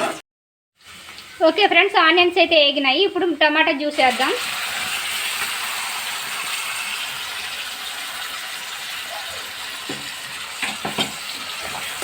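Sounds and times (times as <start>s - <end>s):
food sizzling in hot oil: 0.8s - 12.0s.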